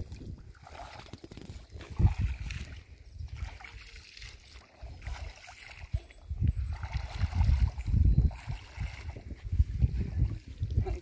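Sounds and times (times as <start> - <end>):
feet splashing in shallow water: 0.0 - 11.0
wind rumbling on microphone: 0.0 - 11.0.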